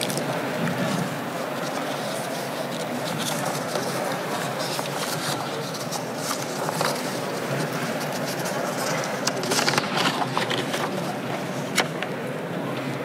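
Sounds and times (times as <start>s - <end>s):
faint indistinct voices: 0.0s - 13.0s.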